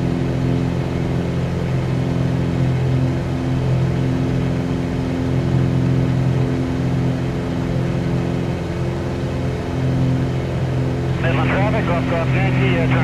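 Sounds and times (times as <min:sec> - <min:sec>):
light aircraft engine drone in cabin: 0:00.0 - 0:13.0.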